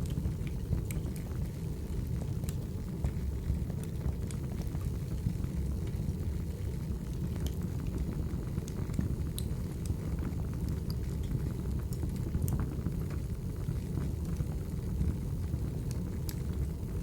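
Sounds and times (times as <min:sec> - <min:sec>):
burning logs crackling and popping: 0:00.0 - 0:17.0
wood fire rumbling: 0:00.0 - 0:17.0.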